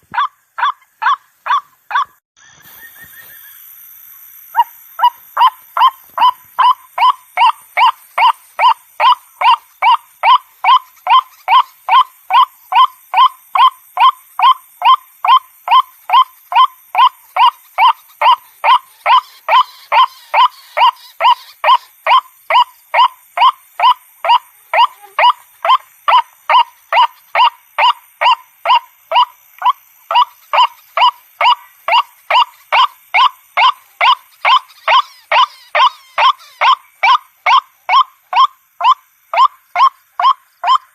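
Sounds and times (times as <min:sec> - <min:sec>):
waterhen calling: 0:05.0 - 0:40.9.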